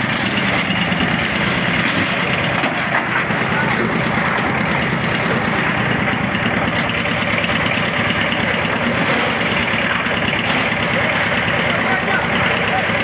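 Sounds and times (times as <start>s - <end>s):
concrete mixer engine running: 0.0s - 13.0s.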